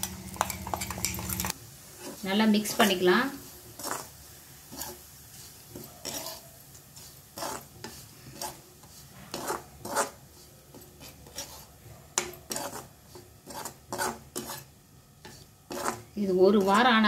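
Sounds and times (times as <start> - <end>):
metal spatula scraping a pan: 0.0 - 17.0.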